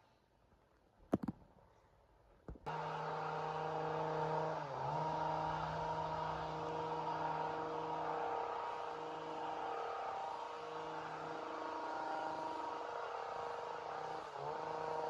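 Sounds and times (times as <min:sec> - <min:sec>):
chainsaw engine running: 0:02.7 - 0:15.0.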